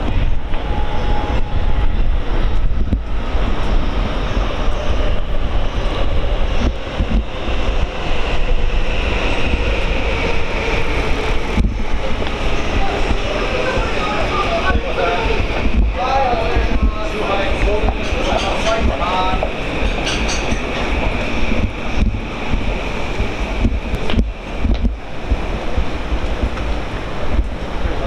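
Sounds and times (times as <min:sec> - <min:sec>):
low street rumble: 0:00.0 - 0:28.0.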